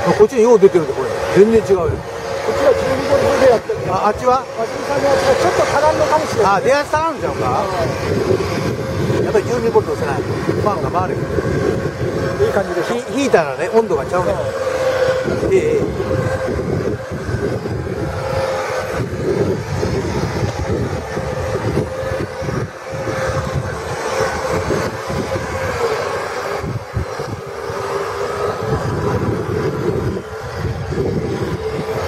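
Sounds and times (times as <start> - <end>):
model boat motor humming: 0.0 - 32.0
wind buffeting microphone: 0.0 - 32.0.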